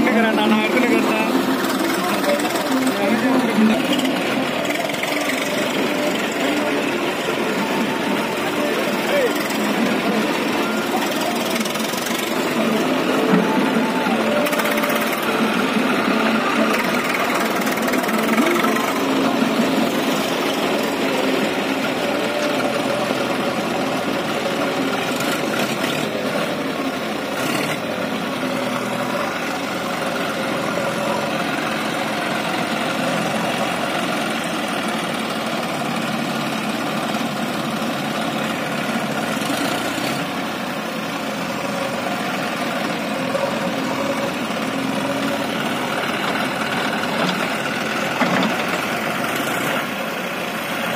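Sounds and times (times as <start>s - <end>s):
backhoe loader working: 0.0s - 50.9s
tractor idling: 0.0s - 50.9s.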